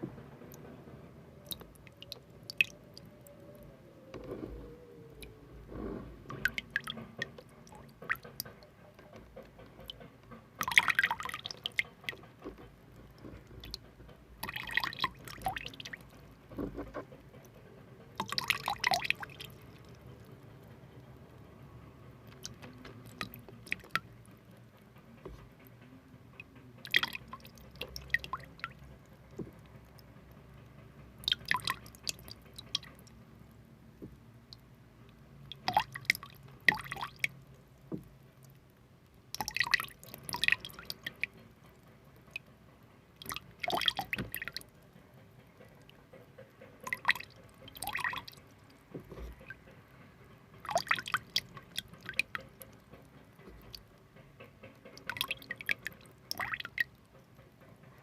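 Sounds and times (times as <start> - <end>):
water dripping and splashing: 1.4 - 3.2, 6.2 - 20.8, 22.2 - 30.1, 31.2 - 42.5, 43.2 - 44.8, 45.4 - 49.7, 50.6 - 57.5.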